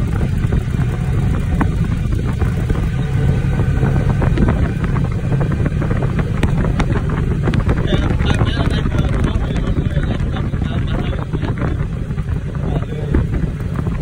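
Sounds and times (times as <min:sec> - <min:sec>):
road noise: 0:00.0 - 0:14.0
wind rushing over microphone: 0:00.0 - 0:14.0.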